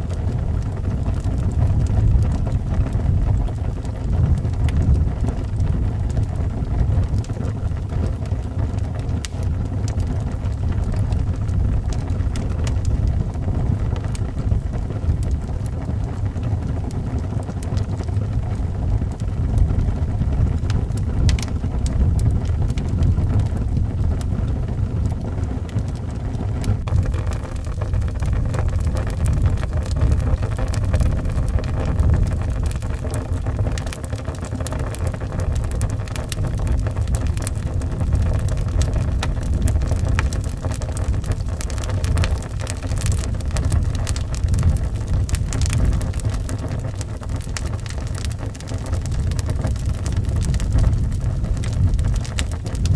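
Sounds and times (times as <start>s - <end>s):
deep rumble of wind: 0.0s - 52.9s
wood fire crackling and popping: 0.0s - 52.9s.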